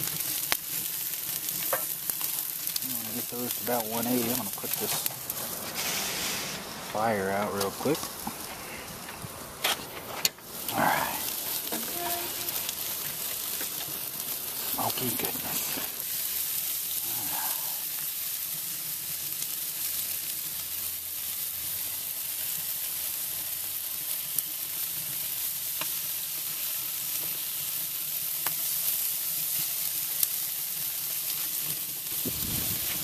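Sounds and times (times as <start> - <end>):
chicken sizzling on grill: 0.0 - 33.0.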